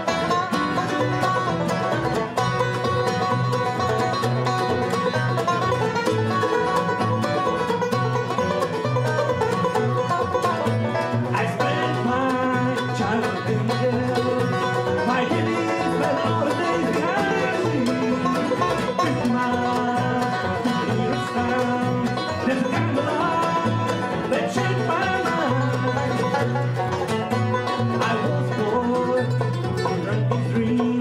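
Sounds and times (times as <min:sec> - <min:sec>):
acoustic guitar: 0:00.0 - 0:31.0
banjo: 0:00.0 - 0:31.0
mandolin: 0:00.0 - 0:31.0
upright bass: 0:00.0 - 0:31.0.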